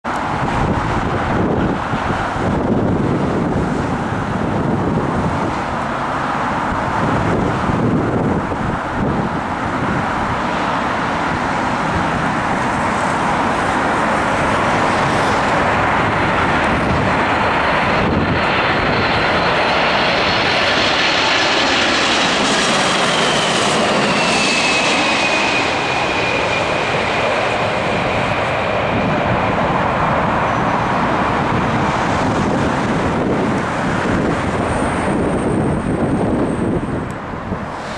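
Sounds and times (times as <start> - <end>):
jet engines passing overhead: 0.0 - 37.9
wind buffeting microphone: 0.1 - 37.9.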